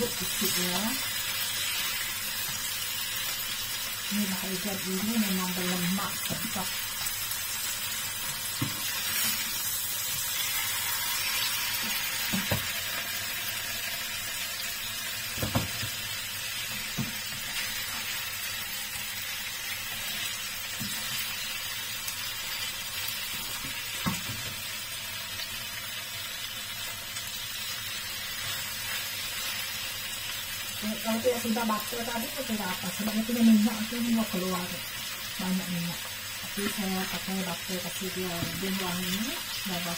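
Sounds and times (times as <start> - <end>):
fish sizzling in frying pan: 0.0 - 39.9.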